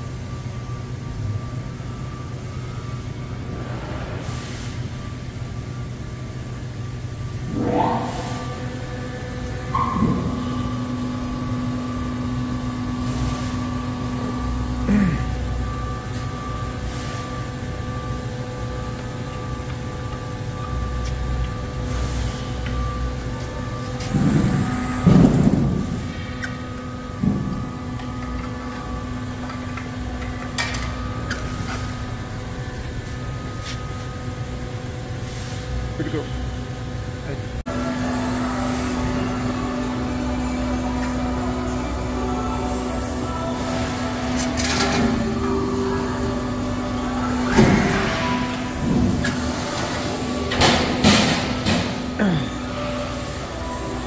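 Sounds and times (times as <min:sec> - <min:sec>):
hydraulic pump whine: 0:00.0 - 0:54.0
lower machine tone: 0:00.0 - 0:54.0.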